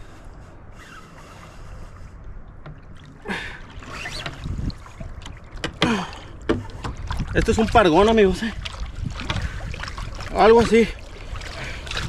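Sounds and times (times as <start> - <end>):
water splashing against hull: 0.0 - 12.0
wind rumbling on microphone: 0.0 - 12.0.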